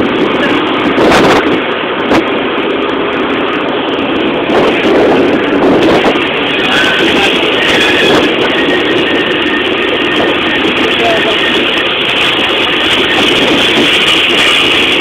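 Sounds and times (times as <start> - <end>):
air rushing past: 0.0 - 12.6
road vehicle moving: 0.0 - 15.0.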